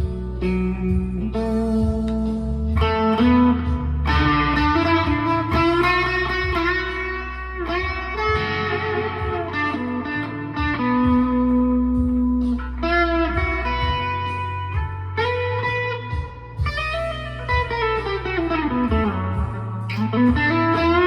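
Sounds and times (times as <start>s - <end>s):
electric guitar melody: 0.0s - 21.0s.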